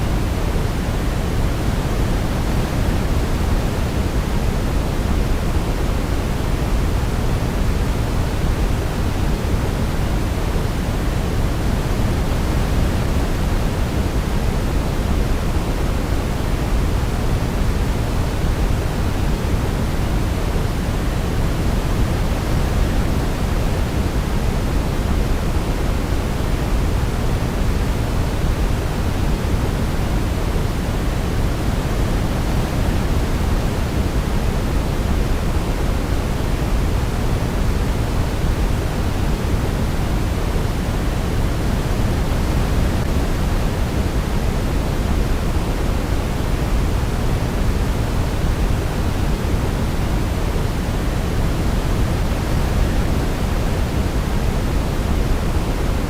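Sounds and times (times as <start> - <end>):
low white noise hiss: 0.0 - 56.0.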